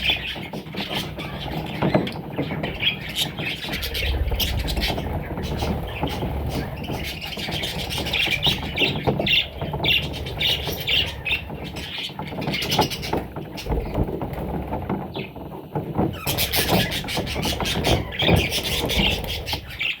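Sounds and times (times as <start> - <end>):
parrot chicks squawking: 0.0 - 14.2, 16.0 - 20.0.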